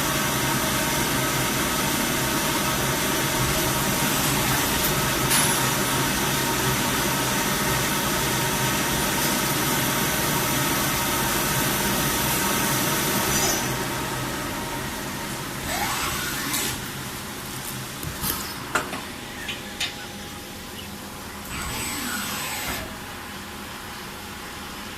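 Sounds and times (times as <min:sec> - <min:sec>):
lathe running with whine: 0:00.1 - 0:17.3, 0:18.2 - 0:23.6.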